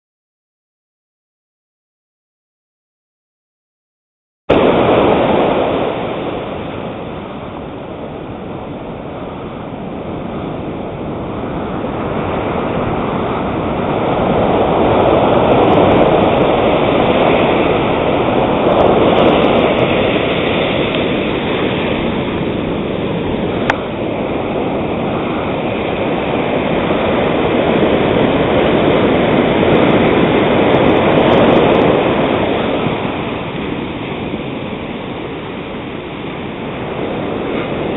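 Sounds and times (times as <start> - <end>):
waves breaking on beach: 4.5 - 37.9.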